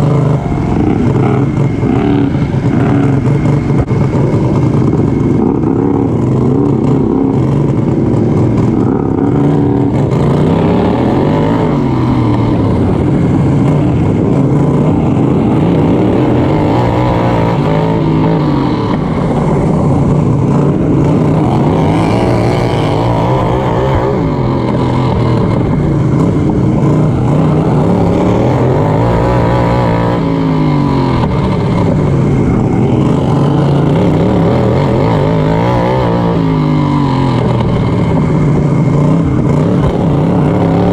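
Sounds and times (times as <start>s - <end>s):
racing lawn mower engine: 0.0s - 40.9s.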